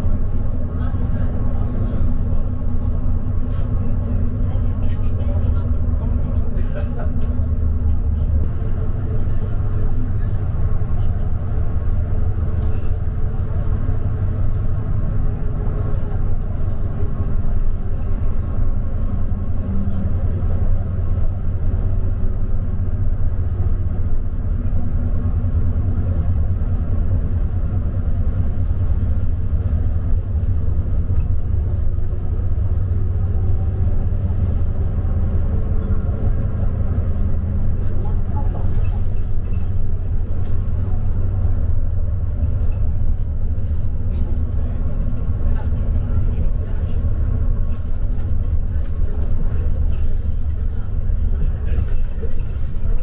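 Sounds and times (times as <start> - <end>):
bus engine and tyres rumbling: 0.0 - 53.0.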